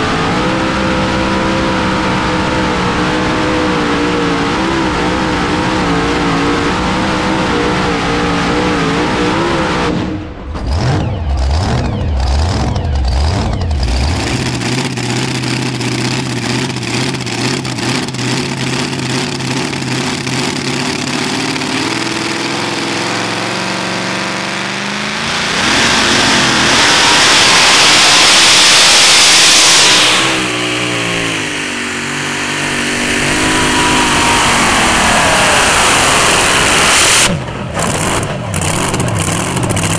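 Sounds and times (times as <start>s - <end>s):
supercharged truck engine revving: 0.0s - 39.9s.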